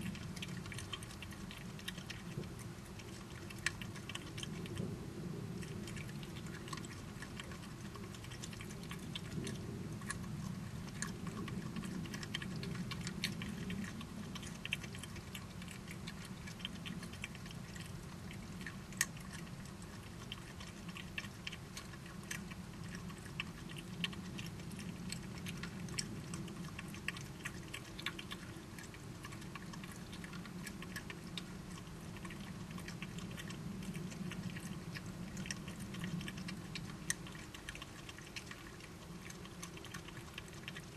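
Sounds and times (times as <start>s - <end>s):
badgers chewing: 0.0s - 40.9s.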